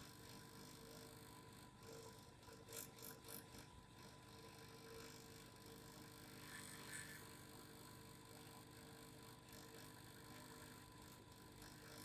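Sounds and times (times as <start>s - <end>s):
faint vibrating hum: 0.0s - 12.0s.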